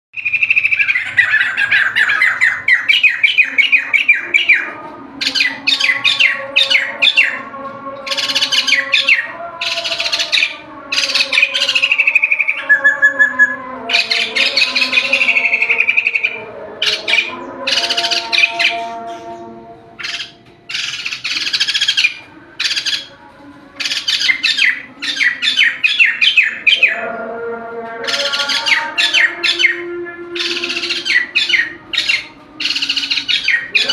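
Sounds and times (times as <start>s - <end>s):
laughingthrush chattering song: 0.2s - 27.4s, 28.0s - 33.9s.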